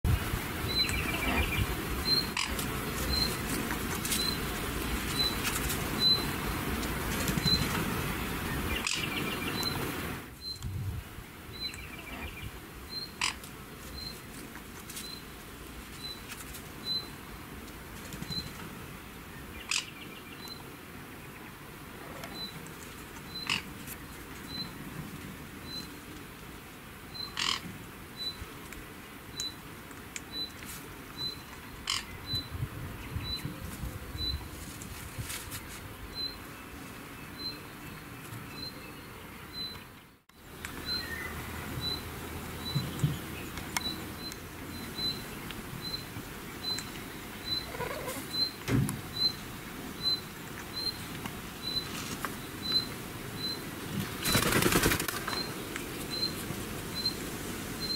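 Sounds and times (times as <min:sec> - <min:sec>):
faint outdoor hiss: 0:00.1 - 0:57.9.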